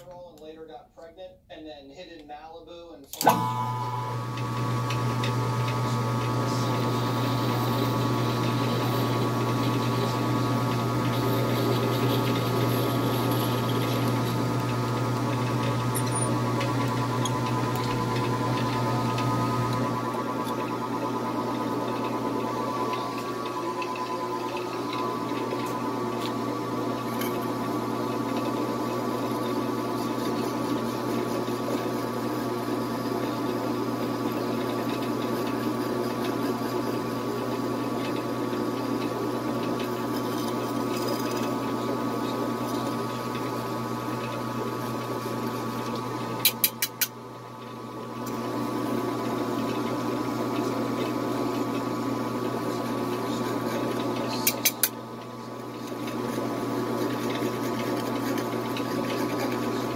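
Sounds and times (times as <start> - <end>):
metal lathe running: 3.2 - 59.9.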